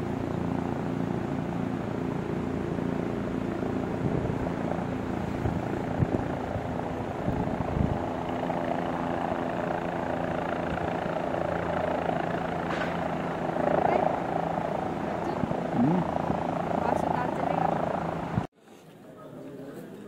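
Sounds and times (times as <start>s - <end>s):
helicopter rotor beating: 0.0s - 18.5s.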